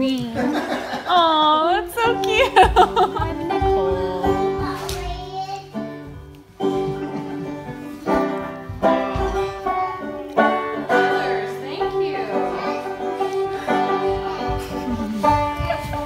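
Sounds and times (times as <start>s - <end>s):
bluegrass banjo music: 0.0s - 16.0s.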